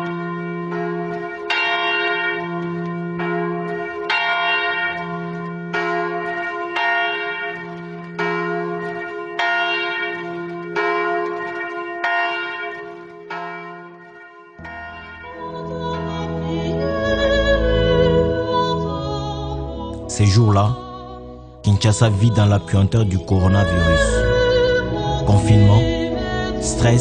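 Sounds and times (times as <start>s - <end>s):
church bell tolling: 0.0s - 27.0s.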